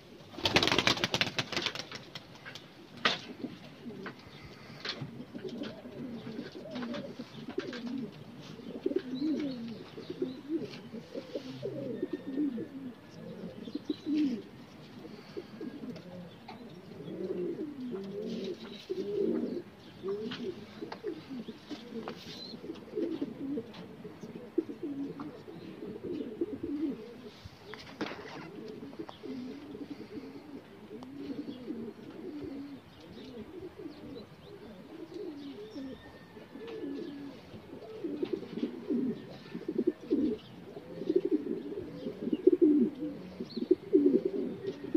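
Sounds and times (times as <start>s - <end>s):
pigeons cooing: 0.0s - 1.8s, 2.5s - 44.9s.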